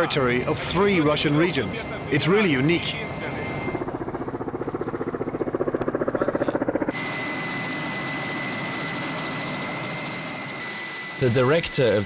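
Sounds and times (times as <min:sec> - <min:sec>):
engine whine: 0:00.0 - 0:12.0
helicopter rotor beating: 0:00.0 - 0:12.0.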